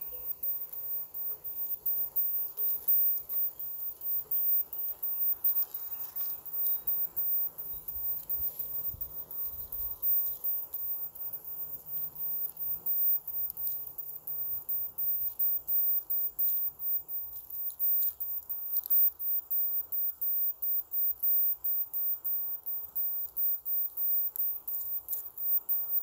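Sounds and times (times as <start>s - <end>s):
soil rustling and crackling: 0.0s - 26.0s.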